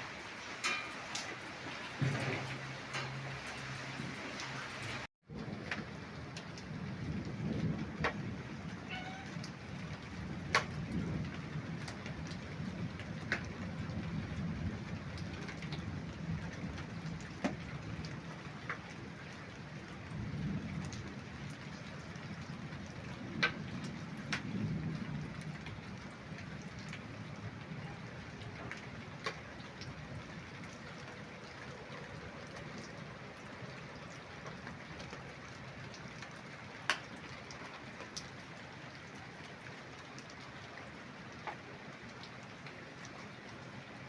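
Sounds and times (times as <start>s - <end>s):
loud raindrops striking close: 0.0s - 44.0s
rain falling: 0.0s - 44.0s.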